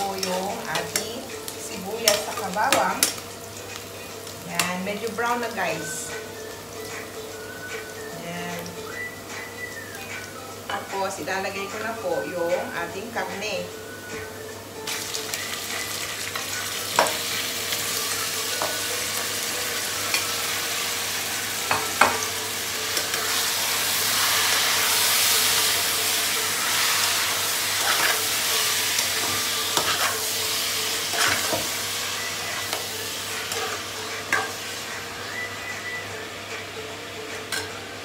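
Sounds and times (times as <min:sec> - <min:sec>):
meat sizzling in a pot: 0:00.0 - 0:38.0.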